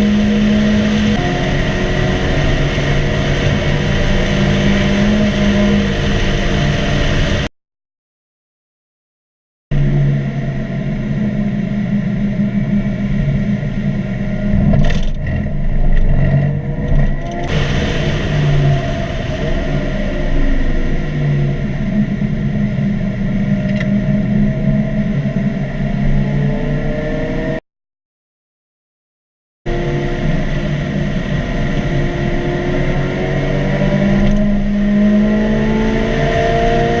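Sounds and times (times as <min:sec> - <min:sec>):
car engine running hard: 0:00.0 - 0:07.5, 0:09.7 - 0:27.6, 0:29.7 - 0:37.0.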